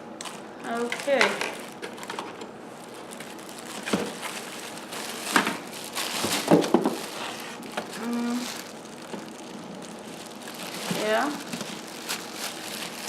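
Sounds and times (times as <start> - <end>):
packaging crinkling and rustling: 0.2 - 13.0.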